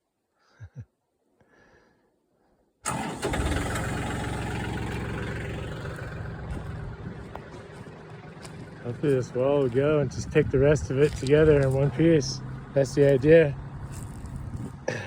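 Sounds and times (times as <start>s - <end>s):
diesel engine running: 2.9s - 15.0s.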